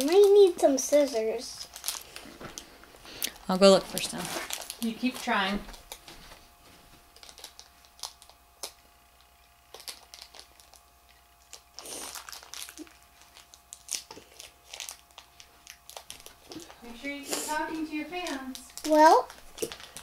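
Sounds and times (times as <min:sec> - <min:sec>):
plastic foil bag crinkling: 0:00.0 - 0:20.0.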